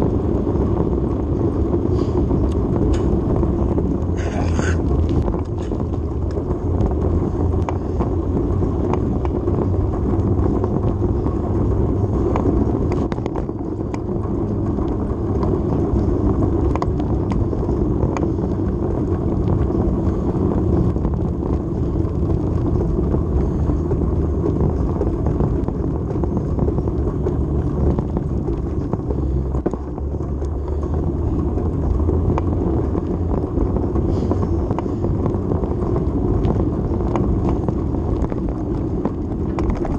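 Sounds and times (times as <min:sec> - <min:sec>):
bicycle road rumble: 0:00.0 - 0:39.9
wind rush: 0:00.0 - 0:39.9
faint clicks and rattles: 0:04.8 - 0:39.9.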